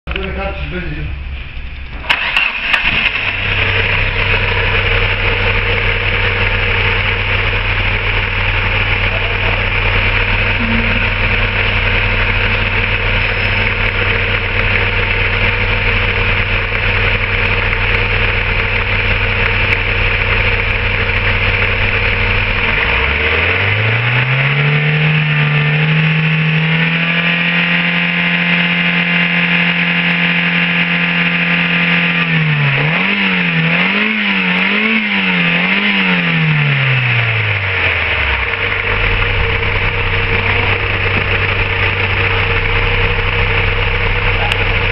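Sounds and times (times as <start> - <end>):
car engine starting and idling: 0.0 - 44.9.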